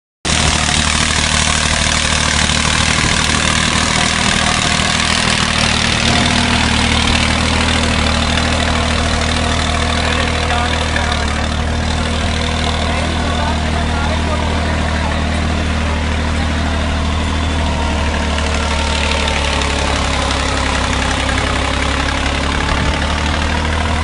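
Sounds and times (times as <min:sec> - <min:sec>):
tractor diesel engine under load: 0:00.2 - 0:24.0.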